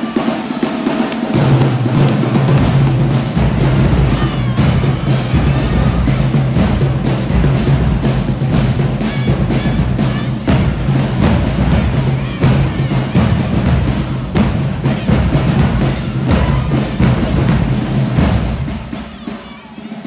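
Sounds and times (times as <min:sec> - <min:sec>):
marching band playing dance music: 0:00.0 - 0:20.0
steady drum beat: 0:00.0 - 0:20.0.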